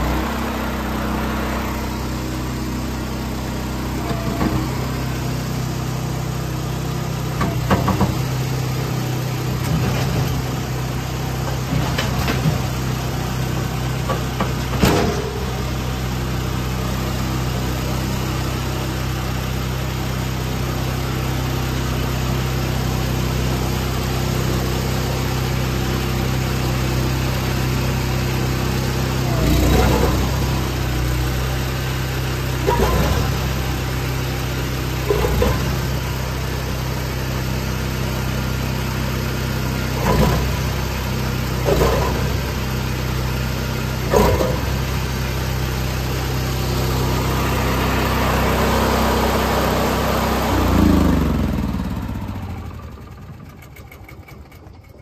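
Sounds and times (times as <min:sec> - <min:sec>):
gas engine idling with surges: 0:00.0 - 0:55.0.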